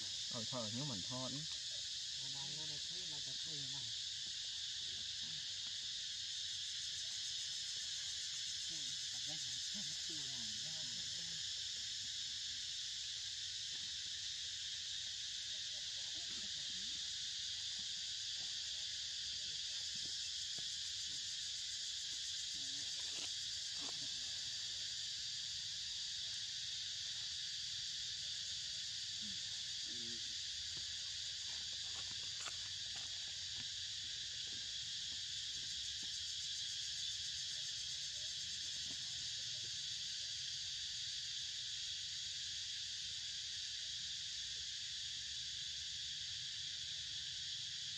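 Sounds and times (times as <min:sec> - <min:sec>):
insect chorus drone: 0:00.0 - 0:47.9.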